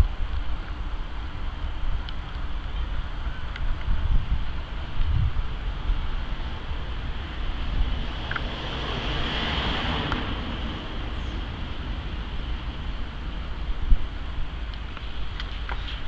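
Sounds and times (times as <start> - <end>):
low outdoor rumble: 0.0 - 16.0
passing vehicle hiss: 0.0 - 16.0.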